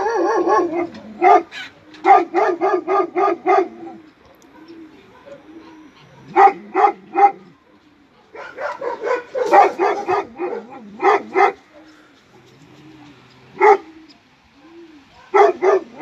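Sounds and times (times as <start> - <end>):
dog barking: 0.0 - 11.9, 13.5 - 13.9, 15.1 - 16.0.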